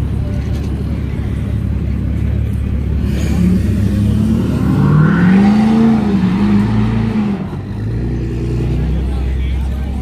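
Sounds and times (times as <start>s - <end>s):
car engine running and revving: 0.0s - 10.0s.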